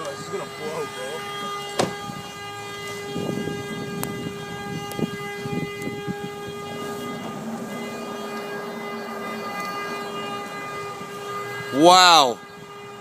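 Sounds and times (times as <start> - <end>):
lower horn tone: 0.0 - 13.0
vehicle horn blaring: 0.0 - 13.0.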